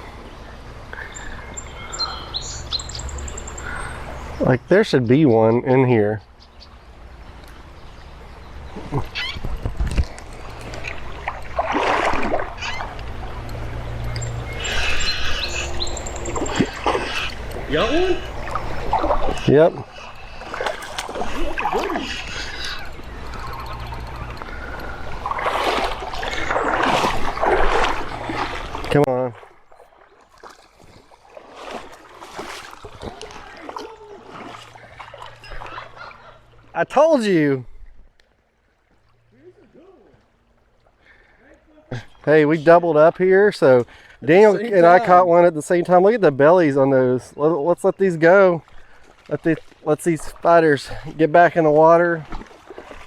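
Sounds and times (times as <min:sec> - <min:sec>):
creek water splashing and gurgling: 0:06.6 - 0:53.0.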